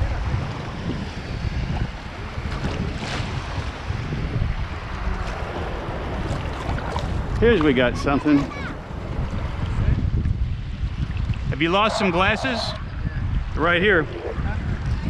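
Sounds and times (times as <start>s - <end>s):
seawater and surf washing: 0.0s - 15.0s
wind buffeting microphone: 0.0s - 15.0s.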